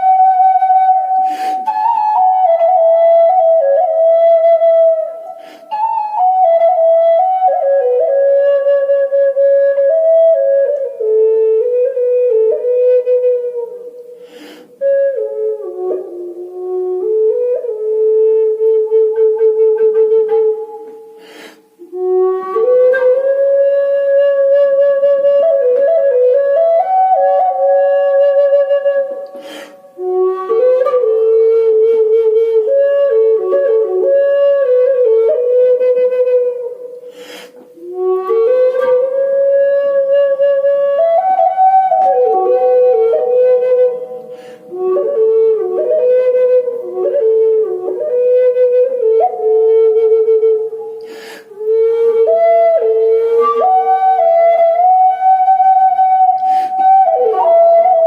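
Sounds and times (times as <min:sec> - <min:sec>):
flute slow melody: 0:00.0 - 0:58.0.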